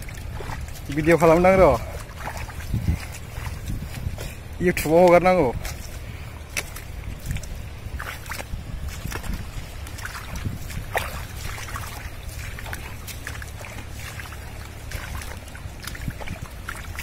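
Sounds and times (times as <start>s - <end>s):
fast-flowing river rushing: 0.0s - 17.0s
wind rumbling on microphone: 0.0s - 17.0s.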